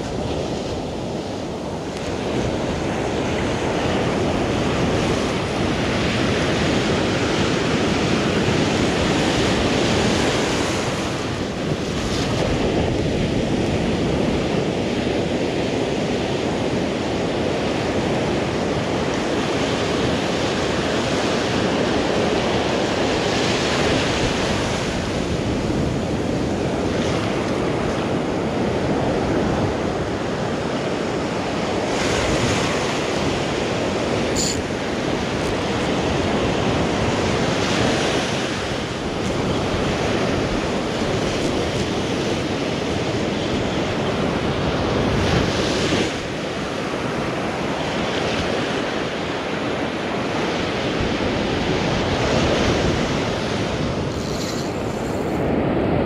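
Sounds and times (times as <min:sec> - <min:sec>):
ocean surf on a sand beach: 0:00.0 - 0:56.0.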